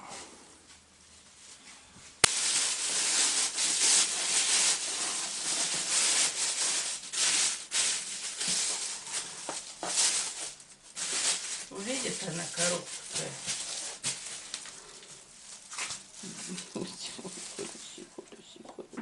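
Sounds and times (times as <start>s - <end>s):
rustling and scraping of handled objects: 0.0s - 19.0s.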